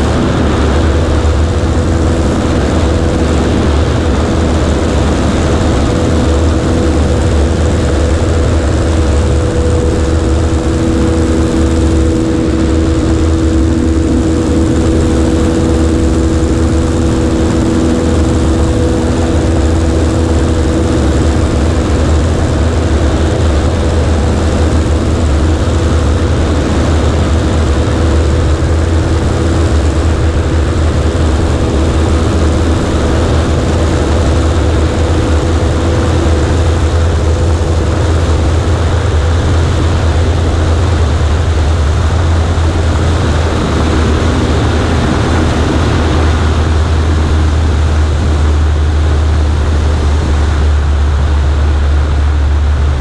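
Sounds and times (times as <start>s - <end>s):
propeller plane engine droning: 0.0s - 53.0s
rushing airflow: 0.0s - 53.0s.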